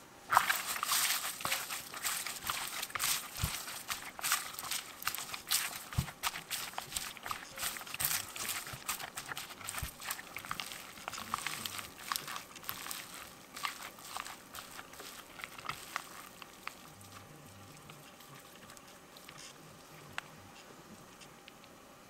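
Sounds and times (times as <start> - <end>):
hand kneading sticky rice: 0.3 - 21.2.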